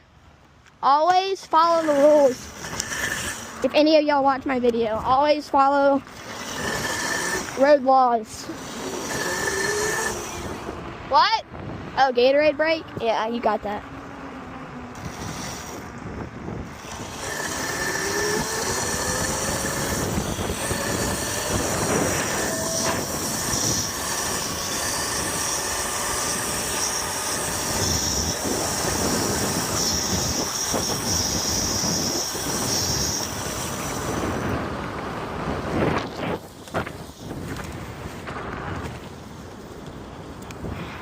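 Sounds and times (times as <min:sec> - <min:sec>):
road noise: 0:00.0 - 0:41.0
rushing wind: 0:00.0 - 0:41.0
electric bike motor whining: 0:01.4 - 0:03.7, 0:05.6 - 0:13.0, 0:13.8 - 0:41.0.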